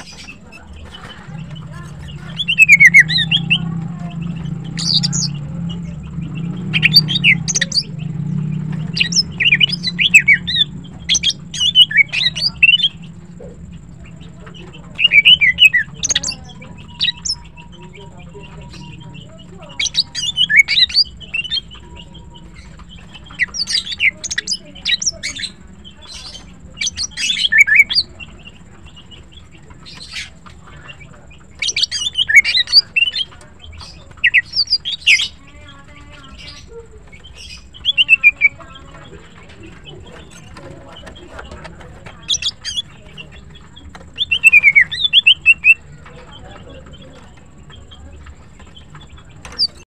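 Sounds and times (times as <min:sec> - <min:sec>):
bird chirps and trills: 0:00.0 - 0:49.9.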